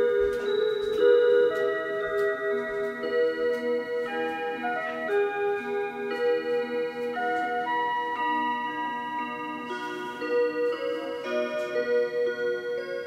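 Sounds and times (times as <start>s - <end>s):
electronic clock melody: 0.0s - 13.0s.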